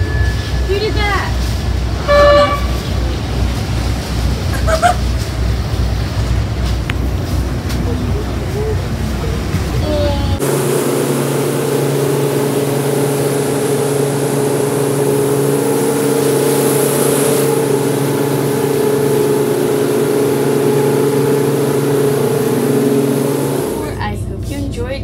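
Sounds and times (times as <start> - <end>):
boat engines humming: 0.0 - 25.0.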